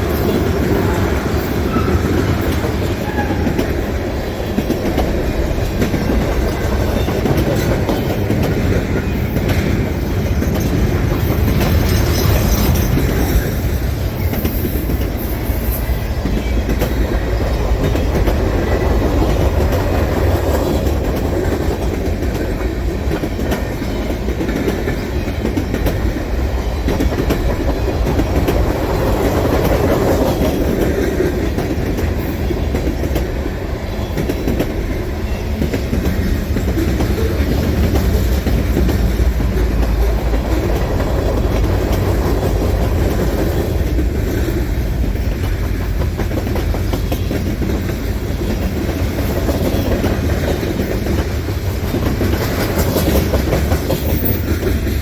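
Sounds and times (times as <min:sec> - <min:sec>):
clickety-clack of wheels over joints: 0:00.0 - 0:55.0
rumble of steel wheels on rail: 0:00.0 - 0:55.0.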